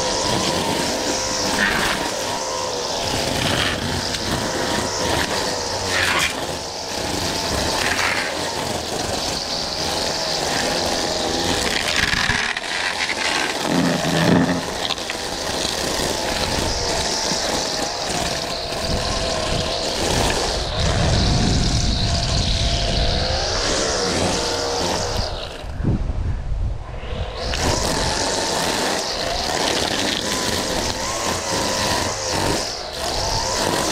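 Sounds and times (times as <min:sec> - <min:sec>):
lawn mower engine running: 0:00.0 - 0:25.8, 0:27.0 - 0:33.9.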